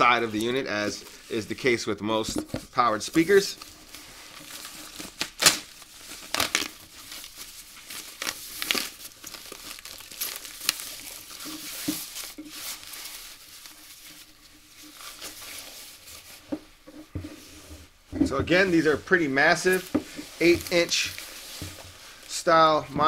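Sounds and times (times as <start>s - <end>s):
plastic wrapping rustling and crinkling: 0.0s - 23.0s.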